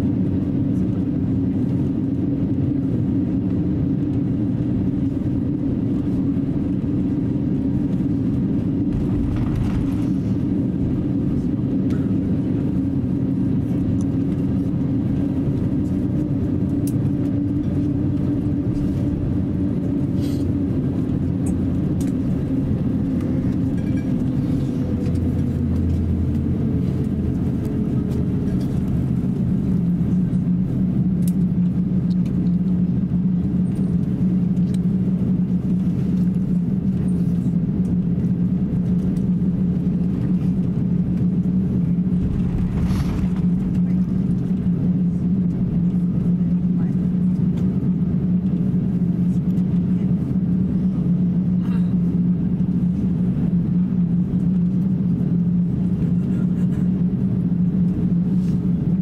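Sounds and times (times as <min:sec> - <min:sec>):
aircraft cabin engine drone: 0:00.0 - 0:59.0.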